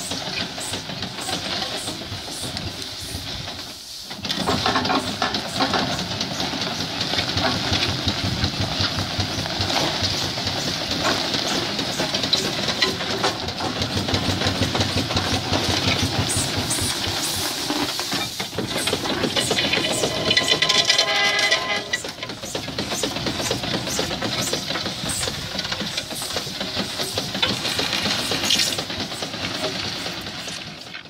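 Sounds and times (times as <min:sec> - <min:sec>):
mechanical clatter: 0:00.0 - 0:31.0
steam roller exhaust beats: 0:00.0 - 0:31.0.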